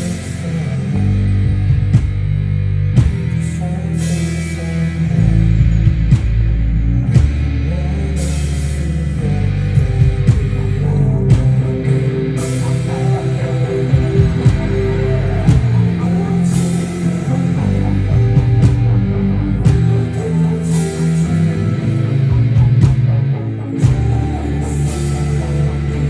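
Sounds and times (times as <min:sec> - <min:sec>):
rock band instrumental: 0:00.0 - 0:26.0.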